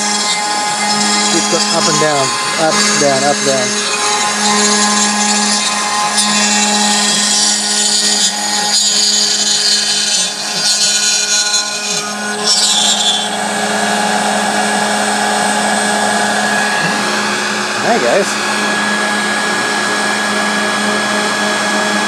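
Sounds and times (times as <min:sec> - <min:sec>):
end mill cutting wood: 0:00.0 - 0:22.0
router spindle running: 0:00.0 - 0:22.0
stepper motors whining: 0:00.0 - 0:22.0.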